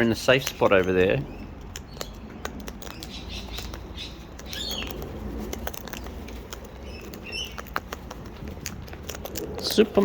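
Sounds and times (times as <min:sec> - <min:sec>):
birds cracking seed: 0:00.0 - 0:10.0.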